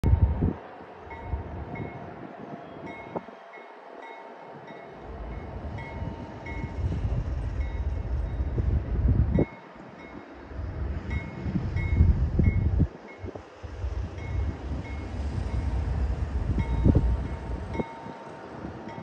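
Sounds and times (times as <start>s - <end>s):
wind buffeting microphone: 0.0s - 3.5s, 5.0s - 19.0s.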